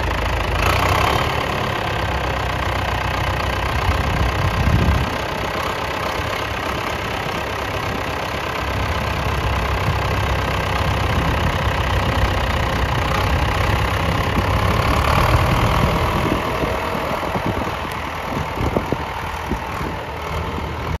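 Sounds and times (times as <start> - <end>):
tractor diesel engine clattering: 0.0 - 21.0.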